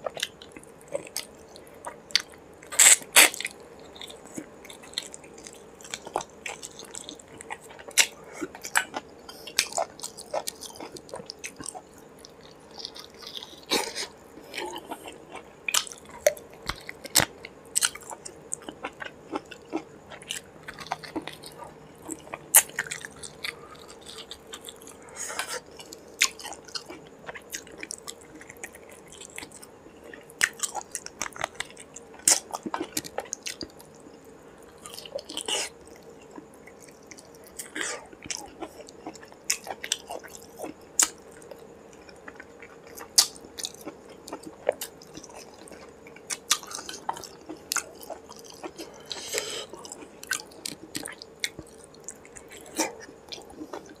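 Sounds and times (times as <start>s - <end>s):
faint steady hum: 0.0s - 54.0s
man chewing food: 0.0s - 54.0s.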